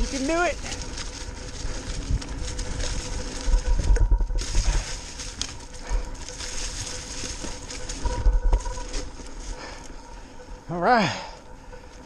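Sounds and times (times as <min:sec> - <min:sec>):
wind buffeting microphone: 0:00.0 - 0:10.7
bike tyres rolling over dry leaves: 0:00.0 - 0:12.0.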